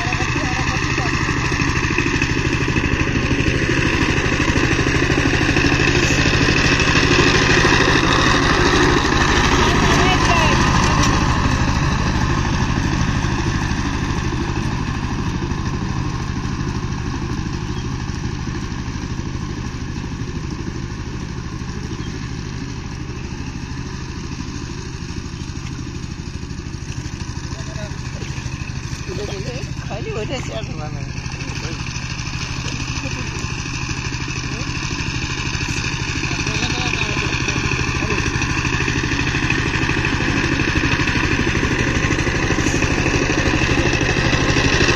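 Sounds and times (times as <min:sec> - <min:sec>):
rotary blades churning soil: 0:00.0 - 0:44.9
tiller engine chugging: 0:00.0 - 0:44.9.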